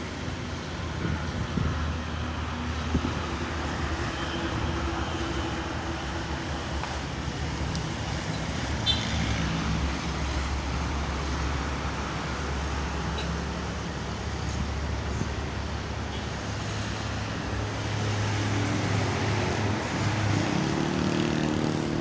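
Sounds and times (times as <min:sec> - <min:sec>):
passing vehicles rushing: 0:00.0 - 0:22.0.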